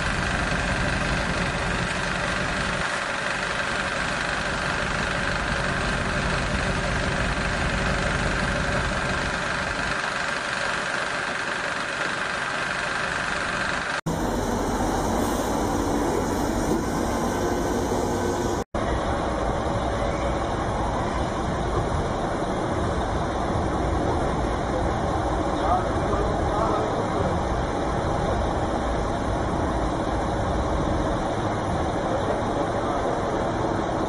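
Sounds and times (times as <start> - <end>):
heavy vehicle engine running: 0.0 - 34.0.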